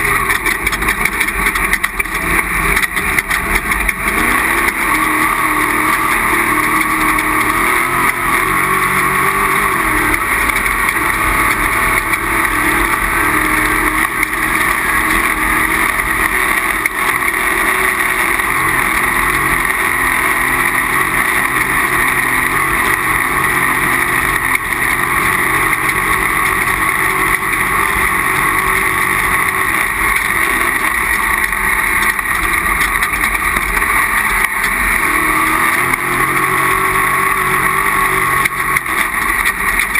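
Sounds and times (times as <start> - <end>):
race vehicle engine running: 0.0 - 39.9.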